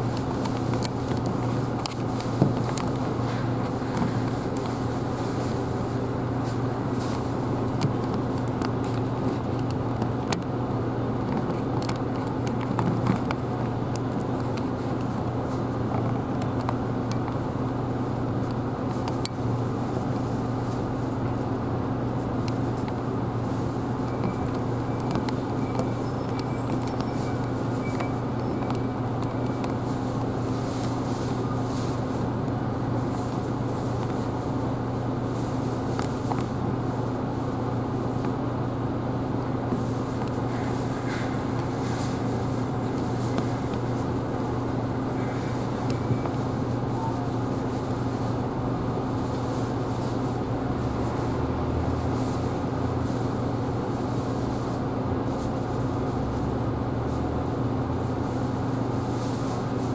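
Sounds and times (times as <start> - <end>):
bus engine humming: 0.0 - 59.9.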